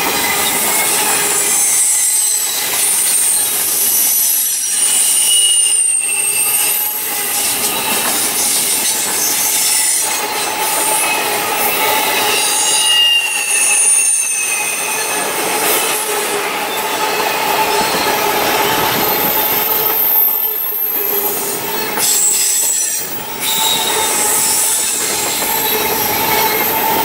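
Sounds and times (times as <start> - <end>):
train wheels squealing: 0.0 - 27.0
wheels rolling on rail: 0.0 - 27.0.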